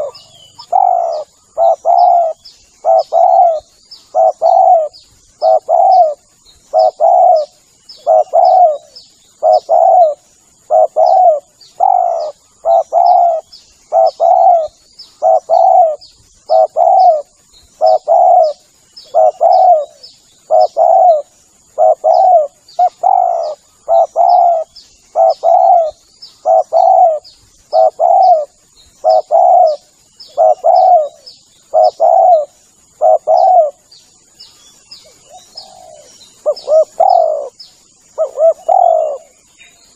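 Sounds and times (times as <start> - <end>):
dove cooing: 0.0 - 33.9, 35.0 - 37.6, 38.2 - 39.4
faint high chirping: 0.0 - 39.9.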